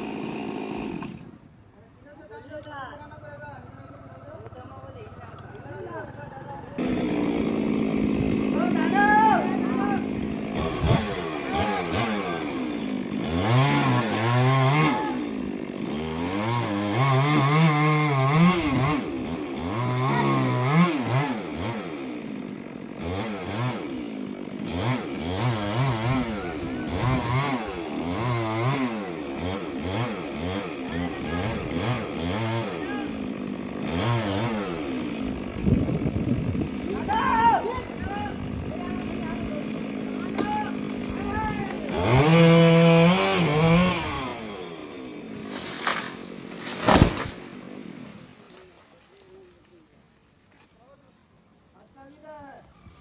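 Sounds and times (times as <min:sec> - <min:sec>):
chainsaw revving up and down: 0:00.0 - 0:01.4, 0:05.2 - 0:49.0, 0:52.6 - 0:53.0.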